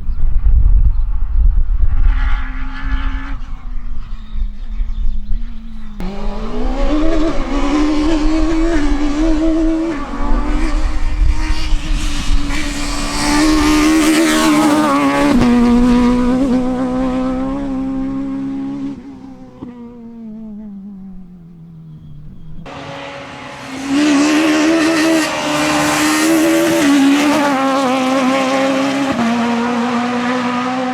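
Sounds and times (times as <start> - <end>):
rally car engine at high revs: 1.6 - 30.9.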